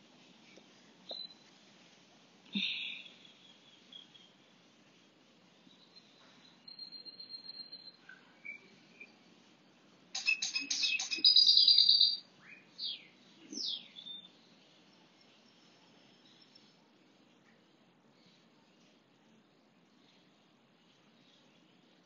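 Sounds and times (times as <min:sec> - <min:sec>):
songbirds chirping and trilling: 0:02.6 - 0:22.0.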